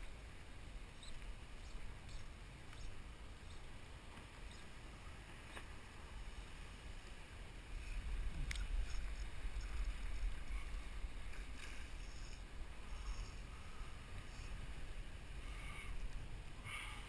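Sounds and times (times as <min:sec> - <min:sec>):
water lapping around kayak: 0:00.0 - 0:17.0
wind rumbling on microphone: 0:00.0 - 0:17.0.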